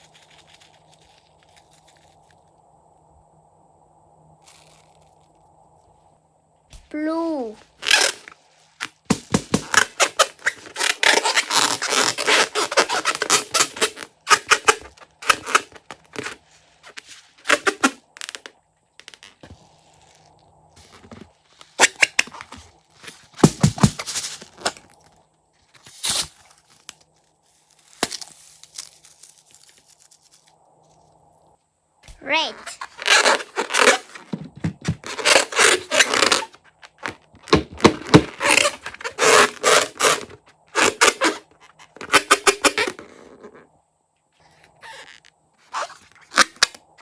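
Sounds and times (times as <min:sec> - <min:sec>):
crunchy slime crackling: 0:00.0 - 0:02.6, 0:04.4 - 0:05.4, 0:07.6 - 0:42.1.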